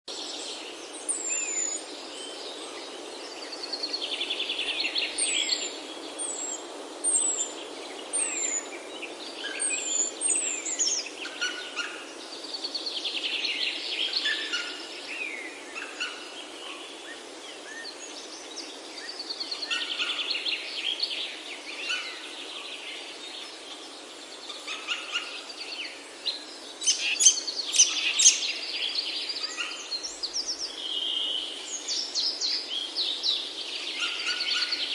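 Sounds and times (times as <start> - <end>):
low background hiss: 0.1 - 34.9
wild birds singing: 0.1 - 34.9.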